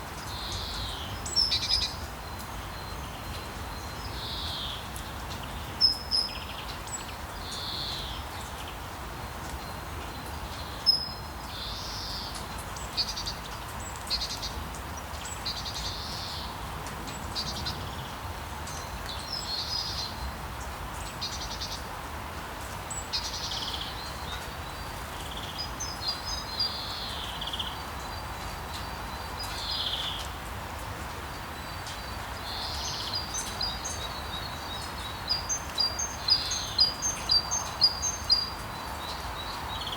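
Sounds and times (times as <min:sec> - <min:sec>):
small birds chirping: 0:00.2 - 0:21.9, 0:22.6 - 0:30.5, 0:31.1 - 0:39.9.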